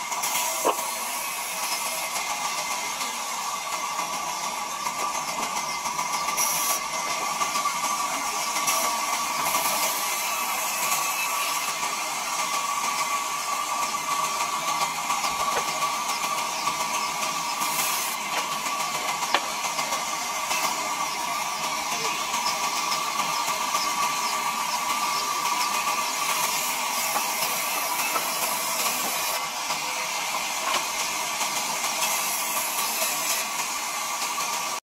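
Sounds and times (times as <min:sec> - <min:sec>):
band saw cutting wood: 0:00.0 - 0:34.8.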